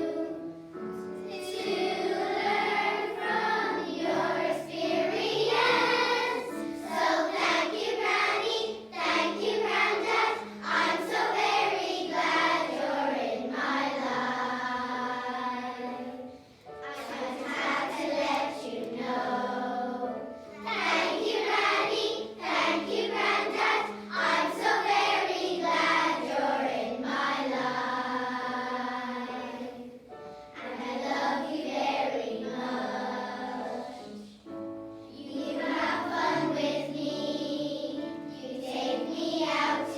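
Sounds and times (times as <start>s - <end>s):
girls choir singing in unison: 0.0s - 39.9s.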